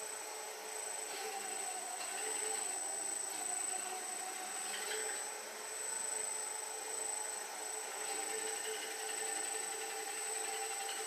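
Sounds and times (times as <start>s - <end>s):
small electric motors whining: 0.0s - 11.0s.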